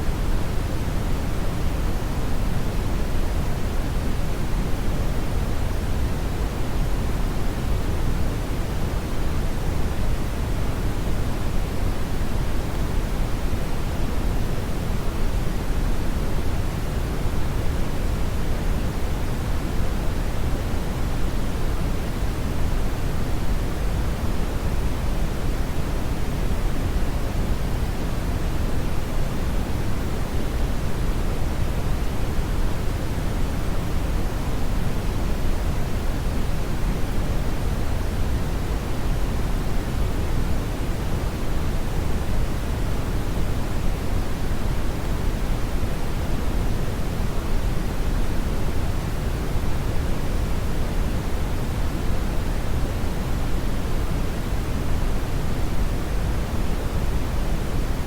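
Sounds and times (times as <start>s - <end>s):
steady brown noise: 0.0s - 58.0s.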